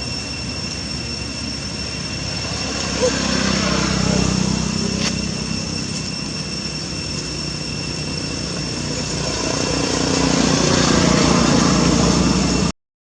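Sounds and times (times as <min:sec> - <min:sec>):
small engine running: 0:00.0 - 0:12.7
steady high whine: 0:00.0 - 0:12.7.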